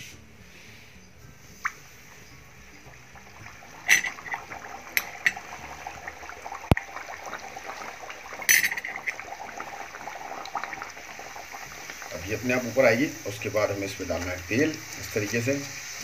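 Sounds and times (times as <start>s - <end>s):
dough frying in hot oil: 1.6s - 16.0s.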